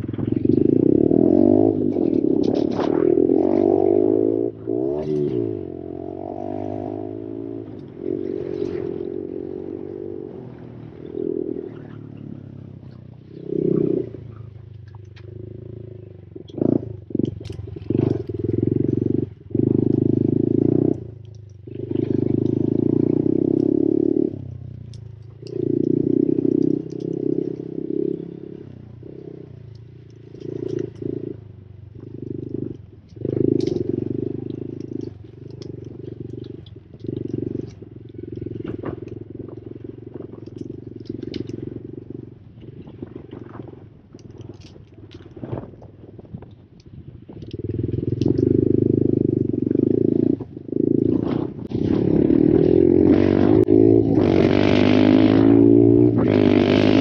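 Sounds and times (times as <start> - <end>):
motorbike engine revving: 0.0 - 46.4, 47.3 - 57.0.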